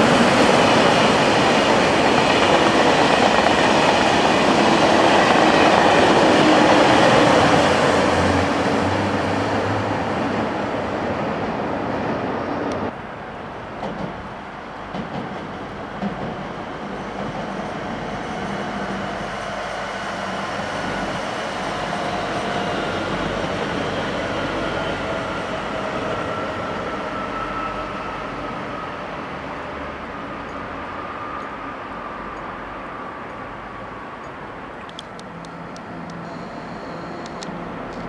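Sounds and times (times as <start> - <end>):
passenger train passing: 0.0 - 38.0.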